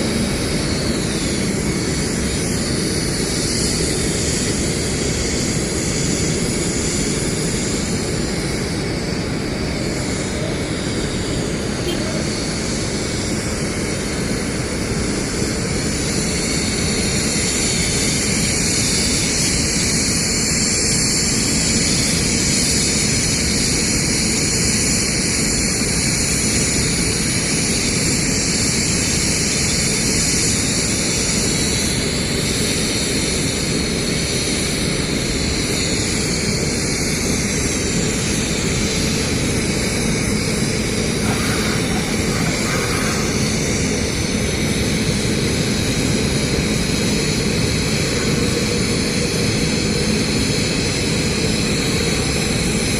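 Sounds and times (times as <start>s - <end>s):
machinery running with hiss: 0.0s - 52.9s.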